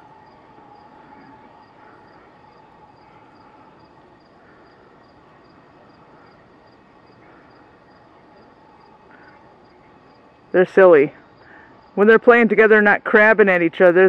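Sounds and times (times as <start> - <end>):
insect chirping in high pips: 0.0 - 12.2
faint steady hum: 0.0 - 14.0.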